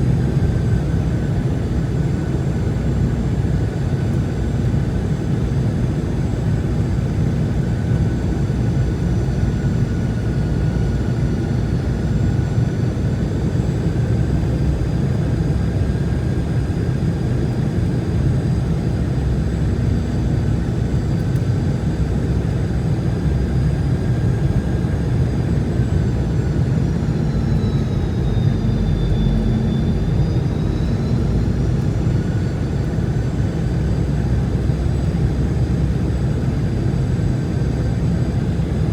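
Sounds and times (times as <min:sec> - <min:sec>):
jet engines roaring with whine: 0:00.0 - 0:38.9.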